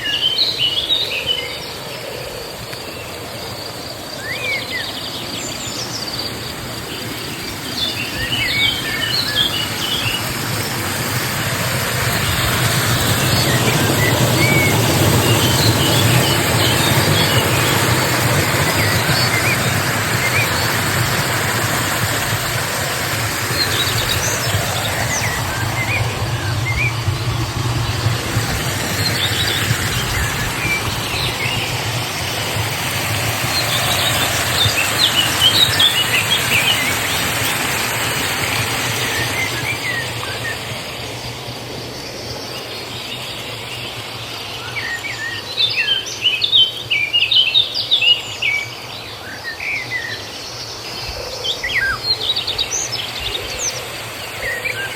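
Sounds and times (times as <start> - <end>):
small birds chirping: 0.0 - 54.9
stream water flowing: 0.0 - 54.9.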